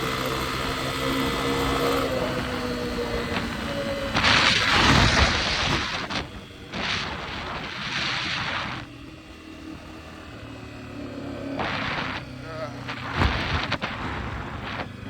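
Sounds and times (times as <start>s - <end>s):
dirt bike engine running: 0.0s - 15.0s
wind buffeting microphone: 0.5s - 10.5s, 11.5s - 15.0s.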